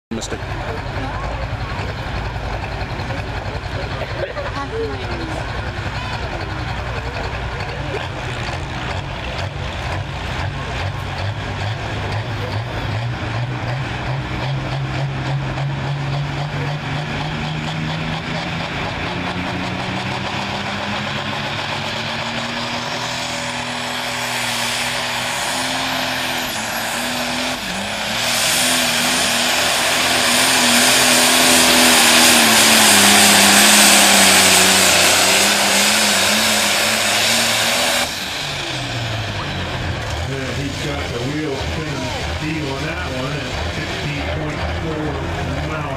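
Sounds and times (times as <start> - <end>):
tractor engine under heavy load: 0.1 - 45.9.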